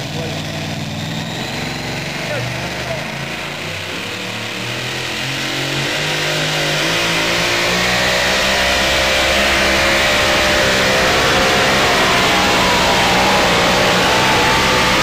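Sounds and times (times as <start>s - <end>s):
supercharged engine running hard: 0.0s - 15.0s.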